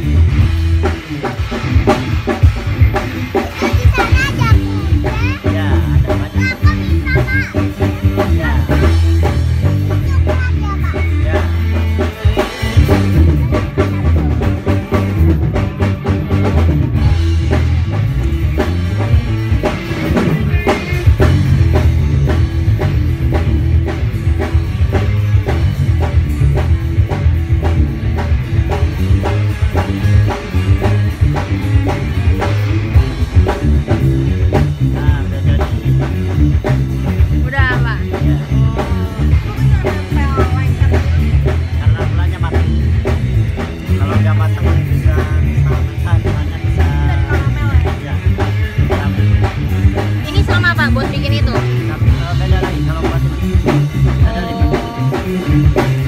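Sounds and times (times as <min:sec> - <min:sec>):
drum kit steady beat: 0:00.0 - 0:56.0
guitar: 0:00.0 - 0:56.0.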